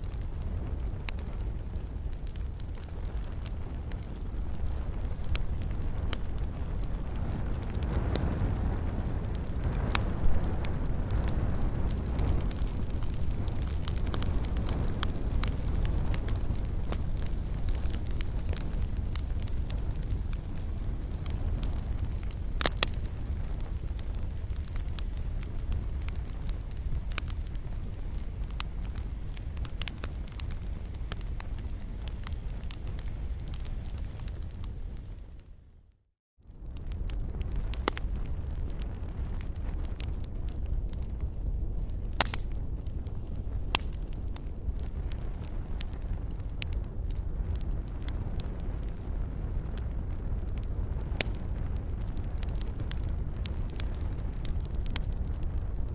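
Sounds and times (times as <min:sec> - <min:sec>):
low steady rumble: 0:00.0 - 0:35.8, 0:36.5 - 0:55.9
wood fire burning: 0:00.0 - 0:55.9.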